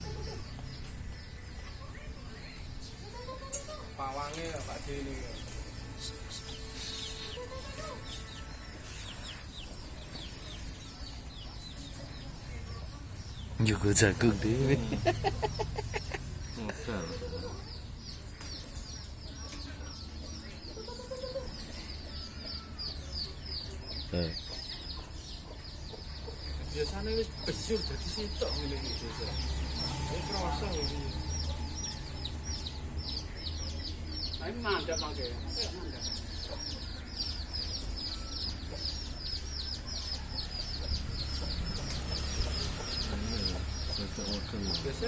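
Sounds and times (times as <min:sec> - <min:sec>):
small birds cheeping: 0:00.0 - 0:45.0.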